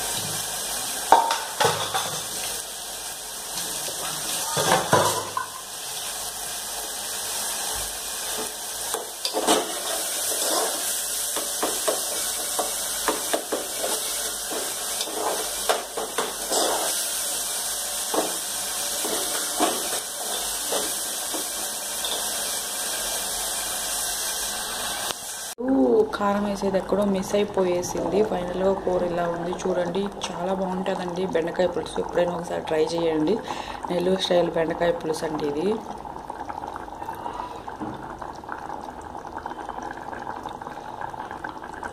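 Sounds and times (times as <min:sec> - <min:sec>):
pot simmering hiss: 0:00.0 - 0:41.9.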